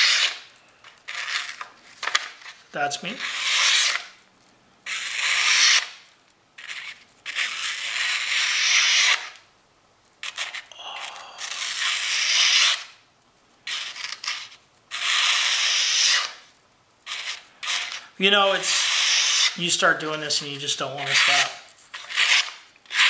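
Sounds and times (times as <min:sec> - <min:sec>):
knife slicing paper: 0:00.0 - 0:04.2, 0:04.9 - 0:09.4, 0:11.4 - 0:13.0, 0:13.7 - 0:16.5, 0:17.1 - 0:23.0.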